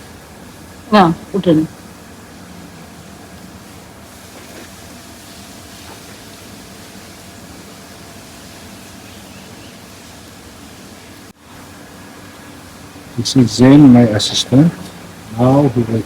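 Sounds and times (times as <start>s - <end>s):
steady hiss and hum: 0.0s - 16.0s.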